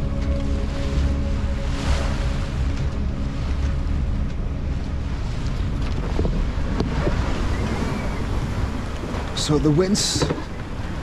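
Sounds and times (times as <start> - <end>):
sea water rushing along hull: 0.0 - 11.0
wind buffeting microphone: 0.0 - 11.0.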